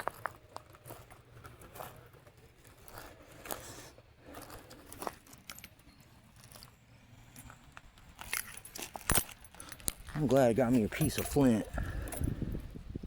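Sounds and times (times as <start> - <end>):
footsteps crunching on dry ground: 0.0 - 5.4, 6.1 - 12.0.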